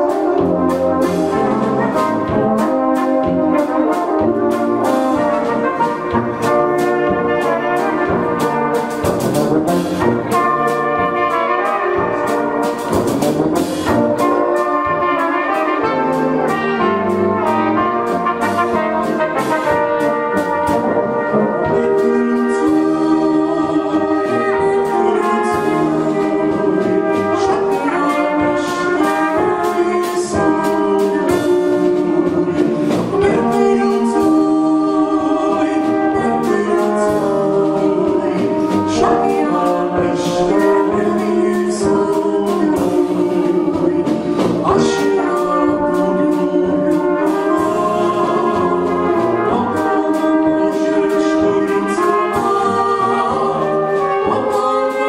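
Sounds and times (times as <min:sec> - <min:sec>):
drum kit steady beat: 0:00.0 - 0:23.7, 0:24.8 - 0:55.0
brass band playing folk tune: 0:00.0 - 0:55.0.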